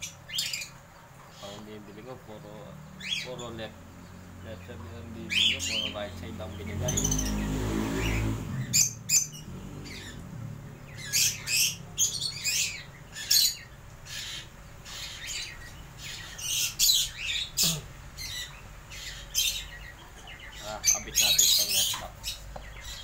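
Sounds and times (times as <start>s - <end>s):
cockatiels squawking and chirping: 0.0s - 3.7s, 4.6s - 23.0s.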